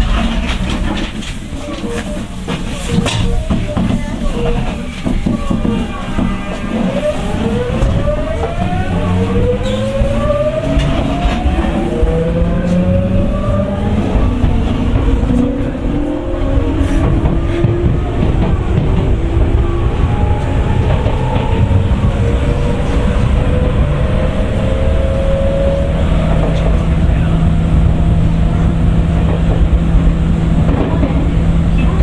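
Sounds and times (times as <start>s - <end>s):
train inverter whining: 0.0s - 32.0s
wheels rumbling on rail: 0.0s - 32.0s.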